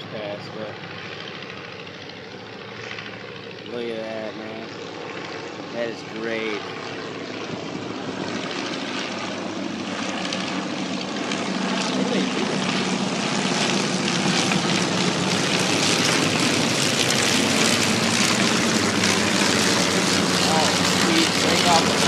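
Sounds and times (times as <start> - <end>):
propeller planes droning overhead: 0.0 - 22.0.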